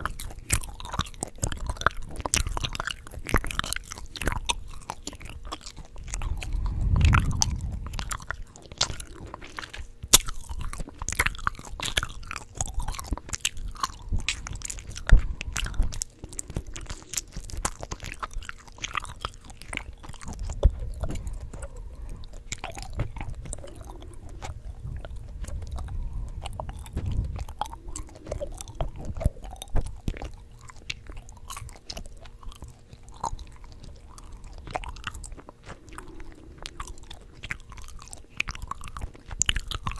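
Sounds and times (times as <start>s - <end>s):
gum chewing smacks: 0.0s - 39.9s.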